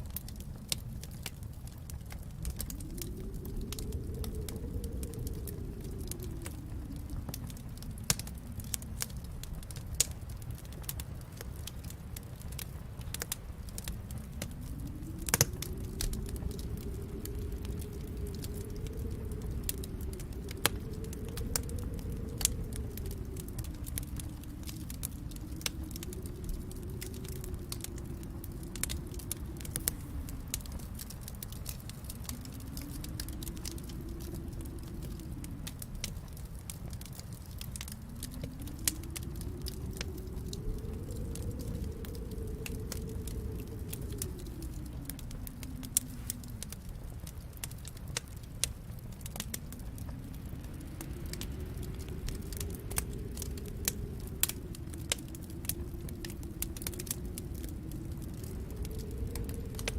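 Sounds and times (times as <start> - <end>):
fire popping: 0.0 - 59.9
low rumble: 0.0 - 59.9
wood fire crackling: 0.0 - 59.9.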